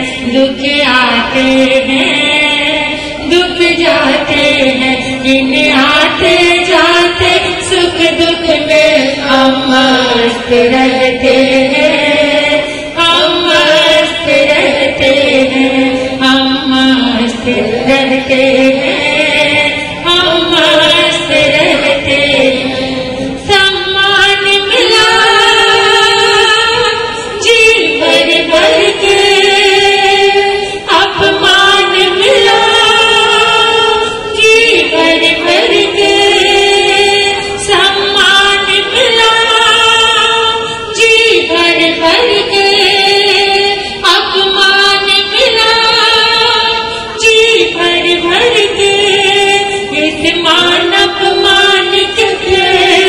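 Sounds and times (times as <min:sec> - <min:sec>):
women singing devotional song: 0:00.0 - 0:53.0.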